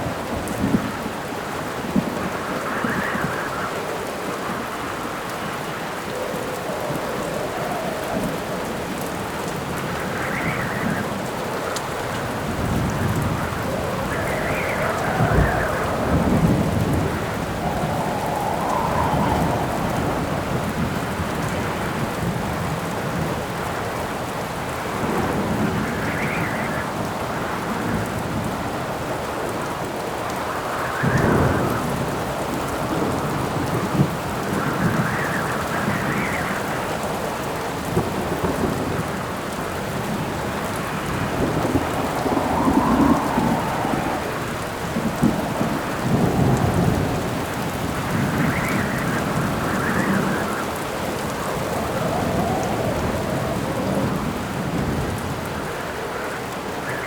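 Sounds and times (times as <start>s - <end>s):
howling wind gusts: 0.0s - 57.0s
steady rain: 0.0s - 57.0s
thunder rumbling: 4.4s - 57.0s.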